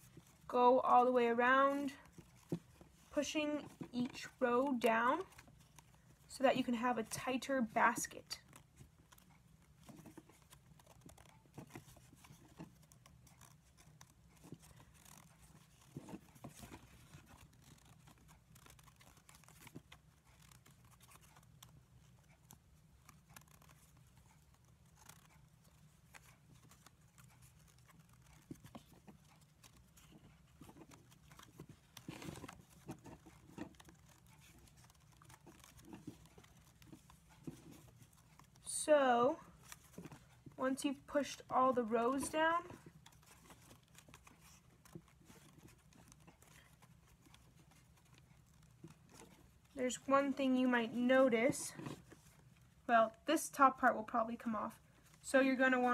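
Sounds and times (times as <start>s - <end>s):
basket reeds rustling and clicking: 0.0s - 38.8s, 39.4s - 52.9s.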